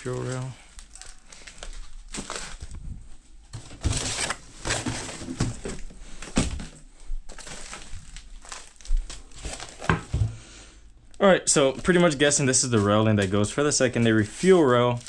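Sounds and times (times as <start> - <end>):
plastic wrapping crinkling: 0.0 - 10.4, 11.1 - 15.0.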